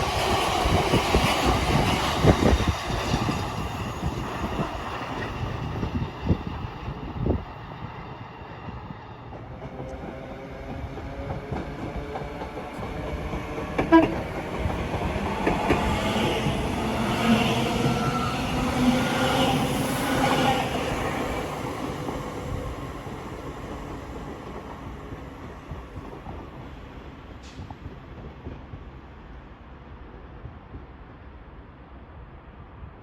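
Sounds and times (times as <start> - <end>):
train rumble and wheel noise: 0.0 - 33.0.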